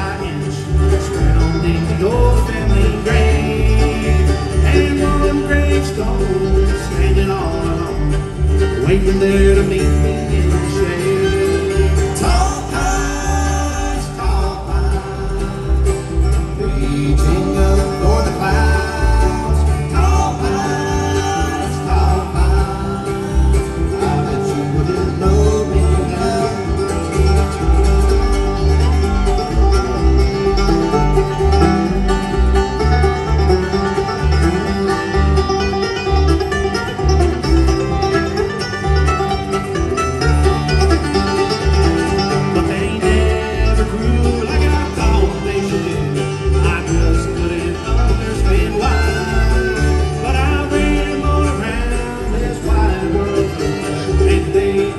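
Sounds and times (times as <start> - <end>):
acoustic guitars: 0.0 - 54.9
upright bass plucked: 0.0 - 54.9.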